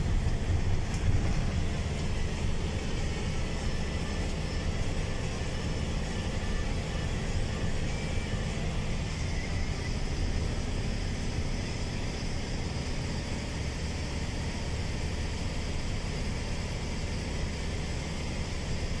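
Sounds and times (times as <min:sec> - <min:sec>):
bus engine and road drone: 0:00.0 - 0:19.0.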